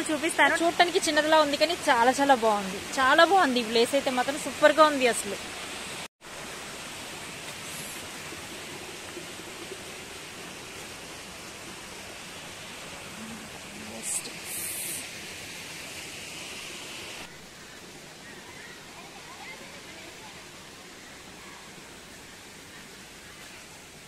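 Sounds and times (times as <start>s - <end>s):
waterfall rushing over rocks: 0.0s - 24.0s.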